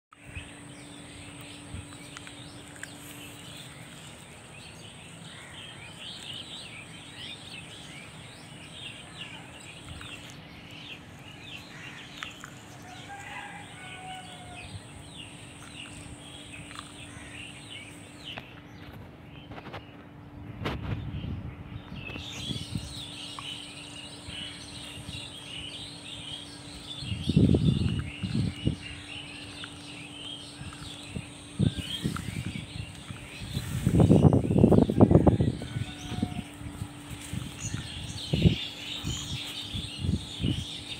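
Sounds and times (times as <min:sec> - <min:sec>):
outdoor background noise: 0:00.1 - 0:40.9
small birds chirping: 0:00.1 - 0:40.9
steady low hum: 0:00.1 - 0:40.9.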